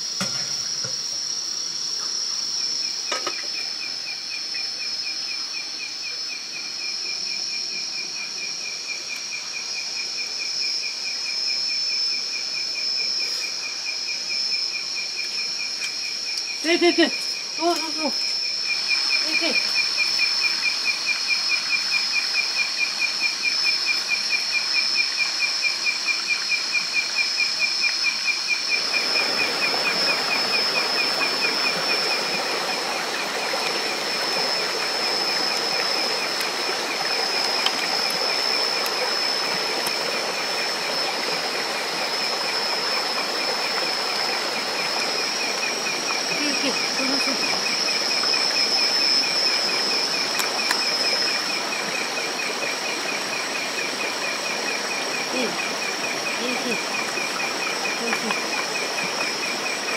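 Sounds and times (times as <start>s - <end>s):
crickets chirping: 0.0s - 59.9s
high-pitched insect drone: 0.0s - 59.9s.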